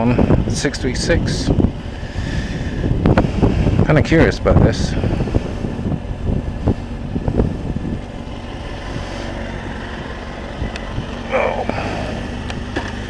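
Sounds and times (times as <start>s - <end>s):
motorcycle engine pulling away: 1.5s - 13.0s.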